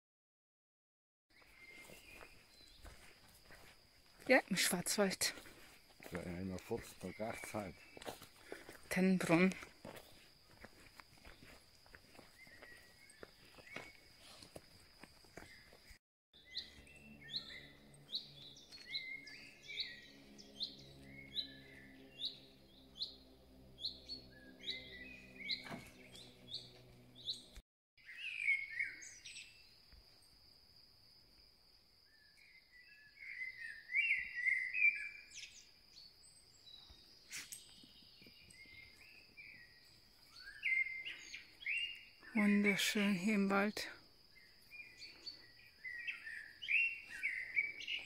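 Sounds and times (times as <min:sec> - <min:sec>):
songbirds singing: 0:01.3 - 0:14.6, 0:15.2 - 0:29.9, 0:32.0 - 0:48.0.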